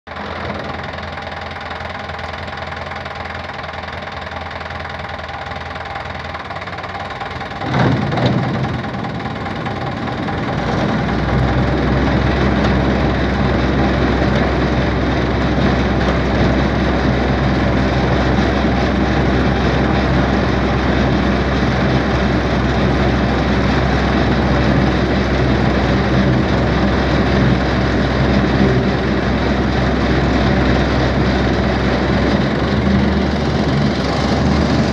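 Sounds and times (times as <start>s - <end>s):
reaper machinery running: 0.1s - 34.9s
tractor diesel engine idling: 0.1s - 34.9s.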